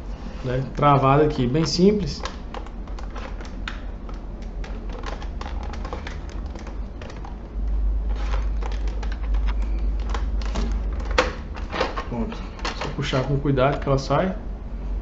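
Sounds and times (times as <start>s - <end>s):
low steady hum: 0.0s - 15.0s
plastic cover clicking and rattling: 1.6s - 14.0s.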